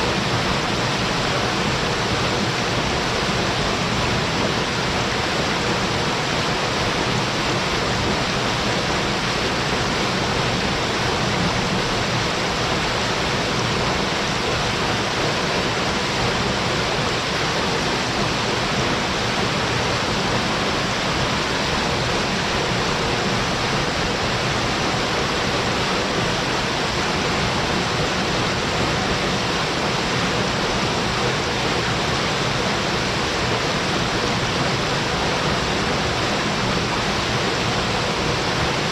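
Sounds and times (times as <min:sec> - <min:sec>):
waterfall rushing into pool: 0:00.0 - 0:38.9.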